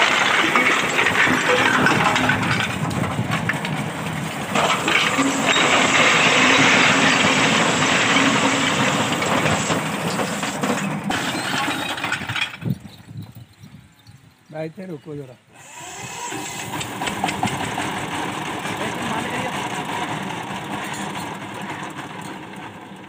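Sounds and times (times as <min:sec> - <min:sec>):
tractor diesel engine running: 0:00.0 - 0:14.3, 0:15.6 - 0:23.0.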